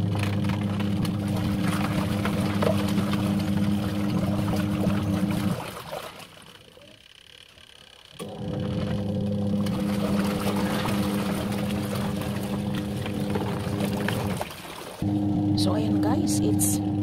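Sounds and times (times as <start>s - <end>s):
wash water churning: 0.0s - 7.0s, 8.2s - 17.0s
washing machine motor humming: 0.0s - 17.0s.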